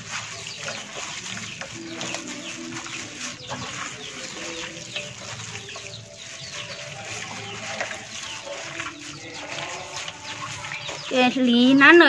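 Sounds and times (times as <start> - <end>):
chickens chirping: 0.0 - 12.0
chickens clucking: 0.0 - 12.0.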